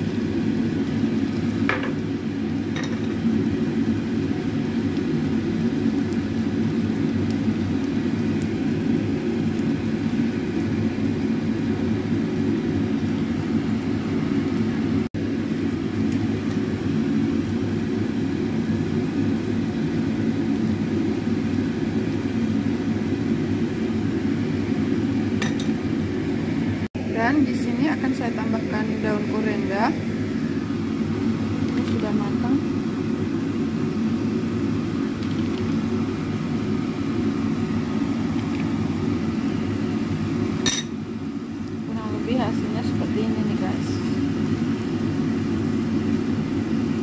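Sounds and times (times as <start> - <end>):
kitchen fan humming: 0.0 - 47.0.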